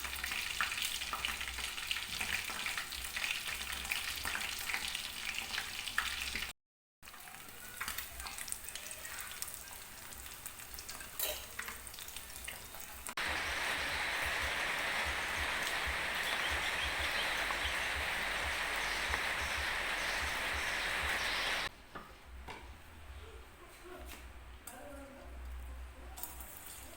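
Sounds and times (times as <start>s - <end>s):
food frying in hot oil: 0.0s - 21.7s.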